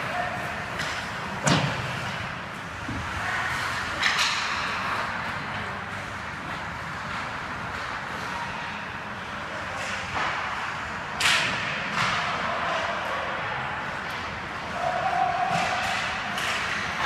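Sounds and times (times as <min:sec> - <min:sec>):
hockey sticks clacking: 0:00.0 - 0:08.8, 0:09.5 - 0:17.0.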